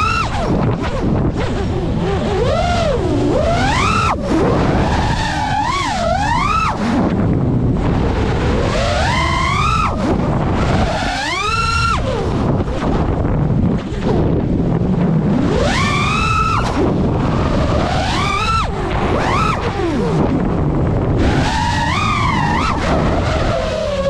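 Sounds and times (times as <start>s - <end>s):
racing drone motors whining: 0.0s - 24.0s
wind and propeller rush: 0.0s - 24.0s.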